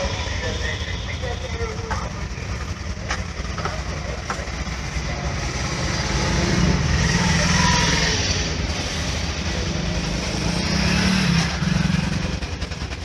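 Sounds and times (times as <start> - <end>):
motor traffic rumble: 0.0 - 13.0.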